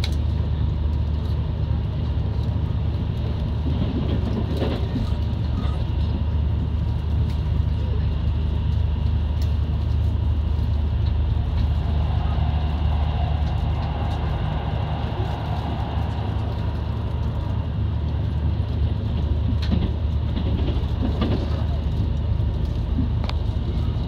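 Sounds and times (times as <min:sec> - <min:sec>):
diesel engine drone: 0:00.0 - 0:24.0
train rumbling on rails: 0:00.0 - 0:24.0.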